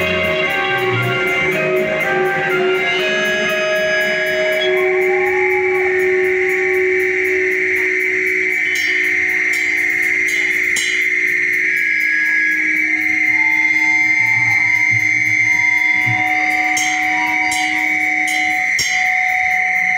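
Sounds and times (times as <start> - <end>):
electric guitars and bass: 0.0 - 10.7, 12.4 - 19.9
drums and cymbals: 0.0 - 19.9.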